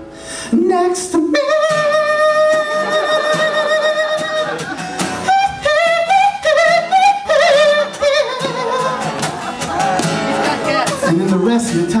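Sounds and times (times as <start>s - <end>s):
man singing: 0.4s - 9.2s, 10.4s - 12.0s
strummed acoustic guitar: 0.8s - 12.0s.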